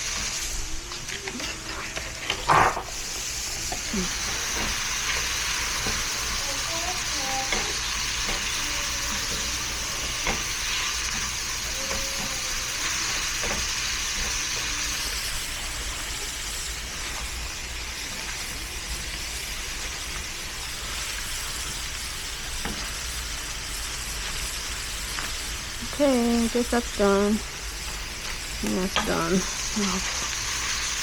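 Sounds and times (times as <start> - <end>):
beef sizzling in a pan: 0.0 - 31.0.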